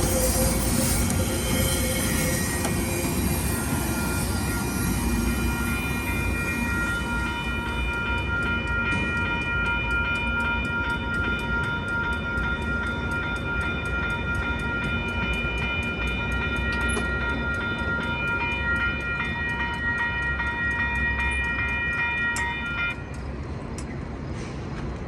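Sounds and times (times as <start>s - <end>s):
high ringing tones: 0.0s - 23.1s
train rumbling past: 0.0s - 25.0s.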